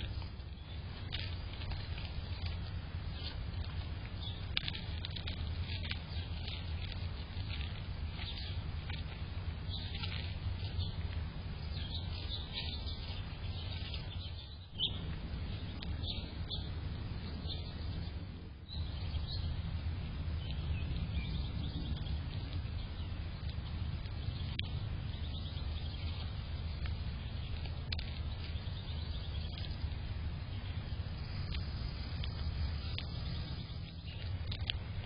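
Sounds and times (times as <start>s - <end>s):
low background rumble: 0.0s - 35.0s
small birds chirping: 0.0s - 35.0s.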